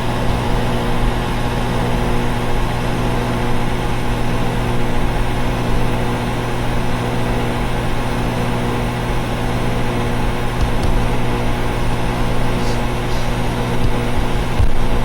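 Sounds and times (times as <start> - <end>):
air conditioners humming: 0.0 - 15.0.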